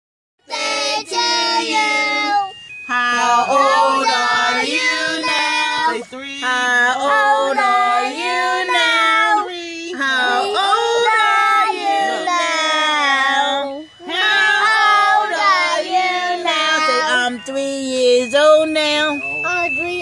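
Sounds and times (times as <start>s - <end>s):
group singing birthday song: 0.4s - 18.4s.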